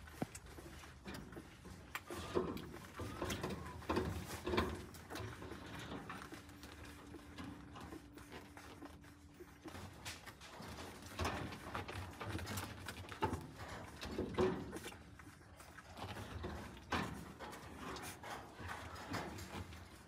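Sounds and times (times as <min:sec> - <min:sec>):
puppies suckling: 0:00.0 - 0:20.0.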